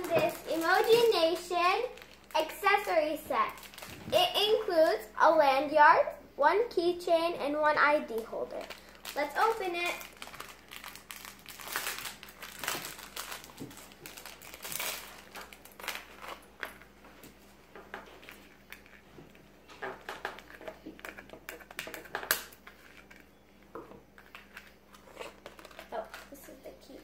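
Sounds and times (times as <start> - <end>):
packaging crinkling and rustling: 0.0 - 4.9, 8.1 - 23.4, 24.0 - 26.7.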